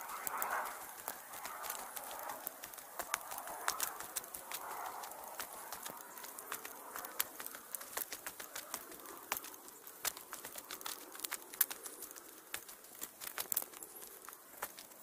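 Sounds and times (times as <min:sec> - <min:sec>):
footsteps crunching on a trail: 0:00.0 - 0:15.0.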